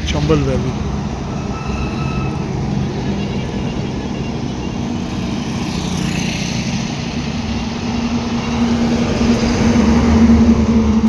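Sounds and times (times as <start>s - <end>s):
traffic rumble: 0.0s - 11.0s
vehicle passing close: 0.0s - 11.0s.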